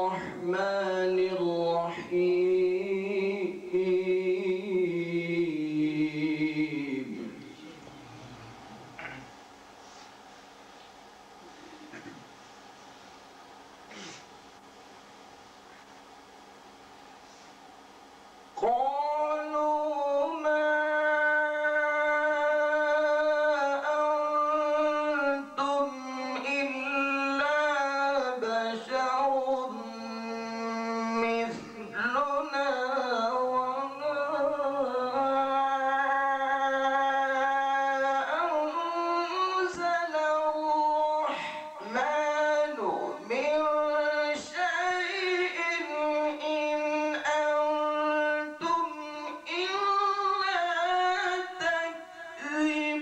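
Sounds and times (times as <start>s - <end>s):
man chanting melodically: 0.0s - 9.3s, 18.6s - 53.0s.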